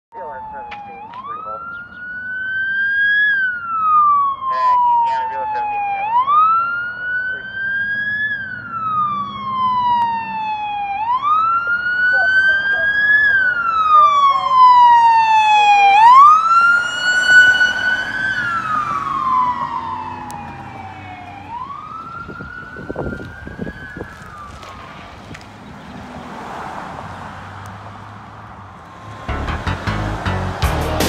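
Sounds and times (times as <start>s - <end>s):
police siren wailing: 0.1s - 30.6s
quiet street noise: 0.1s - 31.0s.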